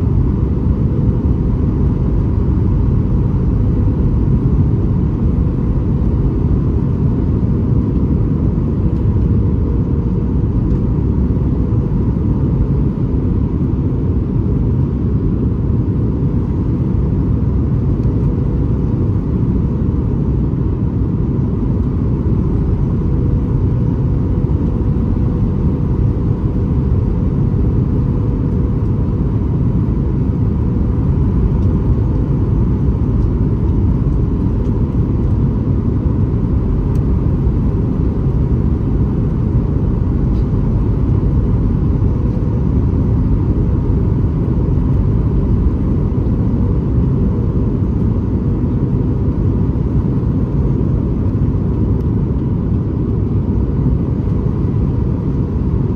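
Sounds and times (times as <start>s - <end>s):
faint steady hum: 0.0s - 55.9s
low rumble of airflow and engines: 0.0s - 55.9s.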